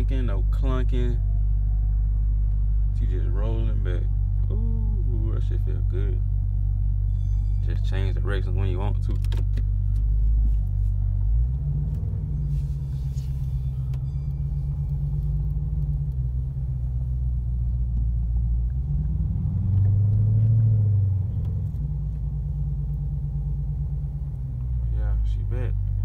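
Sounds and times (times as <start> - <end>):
car engine drone inside cabin: 0.0 - 26.0.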